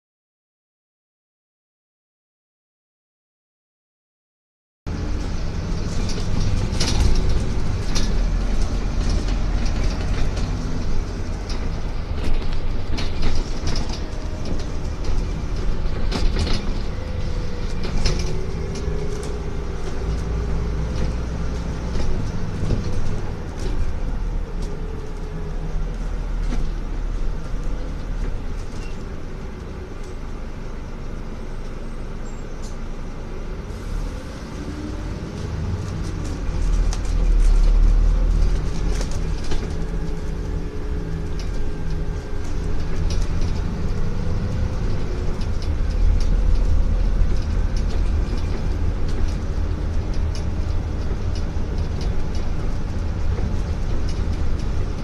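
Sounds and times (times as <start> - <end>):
bus engine rumble: 4.9 - 55.0
rattles and knocks from bus body: 5.0 - 29.3, 35.2 - 55.0.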